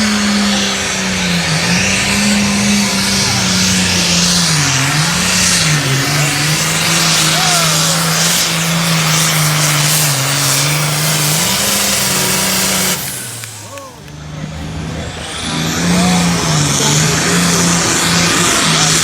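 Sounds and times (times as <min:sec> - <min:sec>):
engine running at high revs: 0:00.0 - 0:19.0.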